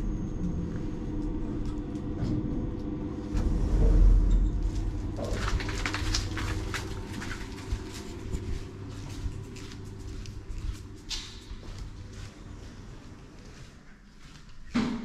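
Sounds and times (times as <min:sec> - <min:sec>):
lift running with low rumble: 0:00.0 - 0:14.0.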